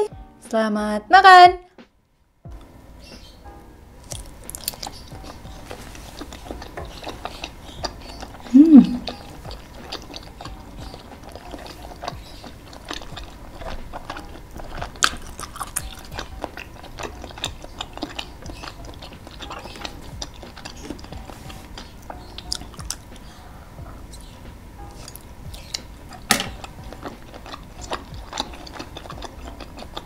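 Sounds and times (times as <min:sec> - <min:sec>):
person chewing with wet mouth clicks: 0:04.1 - 0:23.3, 0:24.9 - 0:30.0.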